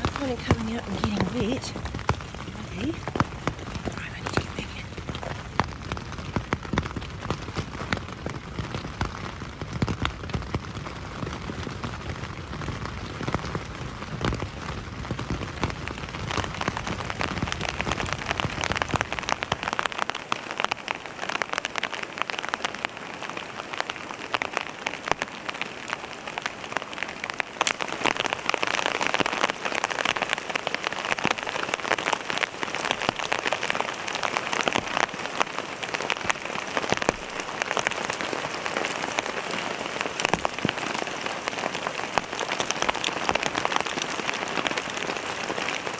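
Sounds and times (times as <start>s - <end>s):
rain pattering on tent: 0.0s - 45.9s.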